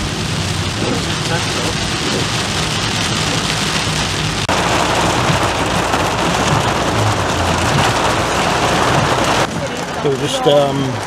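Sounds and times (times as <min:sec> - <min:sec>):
engine and road hum: 0:00.0 - 0:11.0
heavy rain on car roof: 0:00.0 - 0:11.0.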